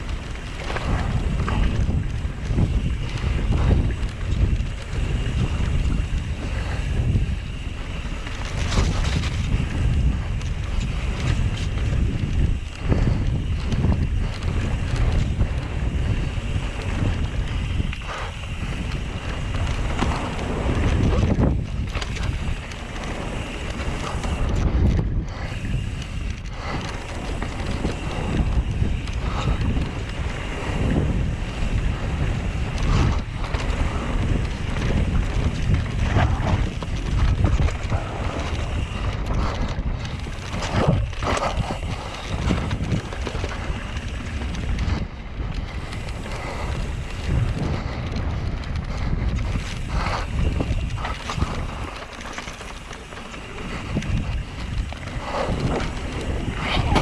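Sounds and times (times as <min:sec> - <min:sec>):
bike tyres rumbling on trail: 0:00.0 - 0:57.0
wind buffeting microphone: 0:00.0 - 0:57.0.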